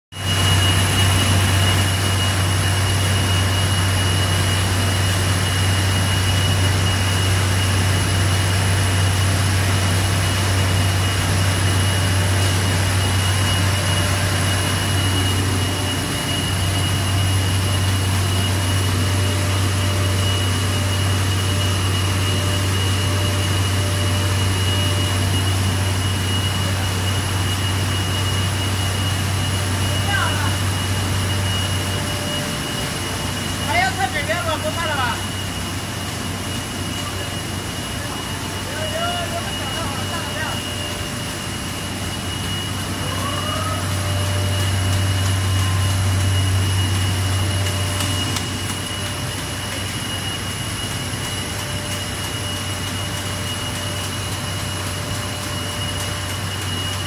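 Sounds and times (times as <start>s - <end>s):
high machine whines: 0.1s - 57.0s
machine drone with low hum: 0.1s - 57.0s.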